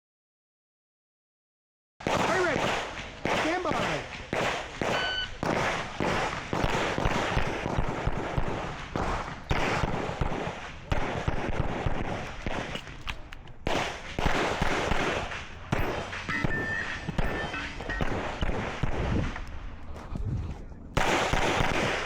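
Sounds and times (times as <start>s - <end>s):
pistol shots: 2.0s - 20.1s, 20.9s - 22.0s.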